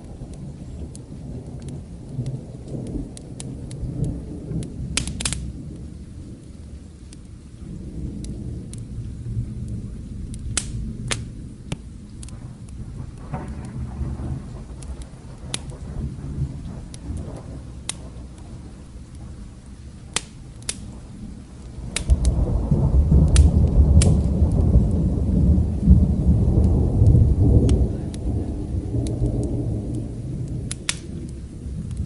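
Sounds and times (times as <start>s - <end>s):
steady rain: 0.0s - 32.0s
thunder rumbling: 0.0s - 32.0s
wood fire popping: 0.0s - 32.0s.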